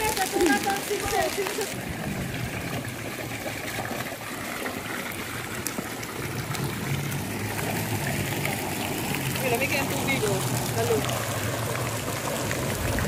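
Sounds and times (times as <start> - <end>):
fountain water splashing into pool: 0.0 - 13.0.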